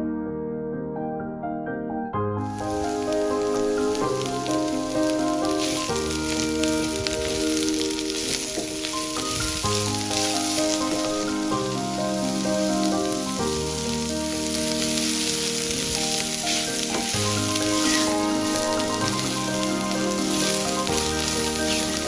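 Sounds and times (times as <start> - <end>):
background music with held chords: 0.0 - 22.0
vegetables sizzling in hot oil: 2.6 - 22.0.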